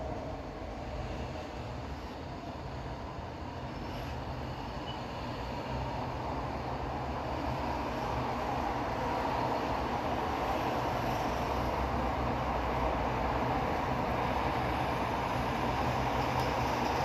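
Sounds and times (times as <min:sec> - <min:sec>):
busy street traffic rumble: 0:00.0 - 0:17.0.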